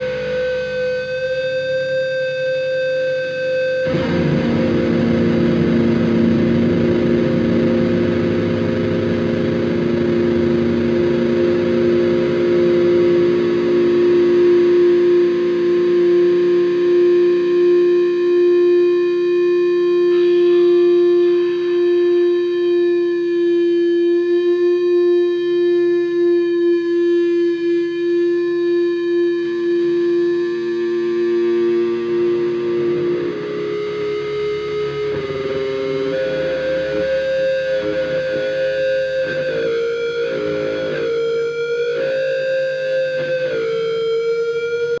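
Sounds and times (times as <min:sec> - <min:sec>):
distorted electric guitar drone: 0:00.0 - 0:45.0.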